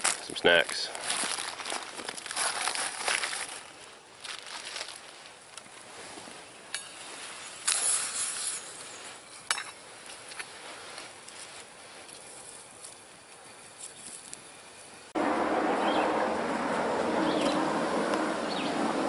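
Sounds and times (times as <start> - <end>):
campfire crackling: 0.0 - 15.5.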